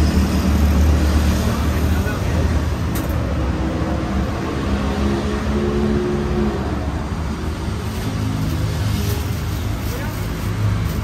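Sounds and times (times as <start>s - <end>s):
street traffic rumble: 0.0s - 11.0s
vehicle engine: 0.0s - 11.0s.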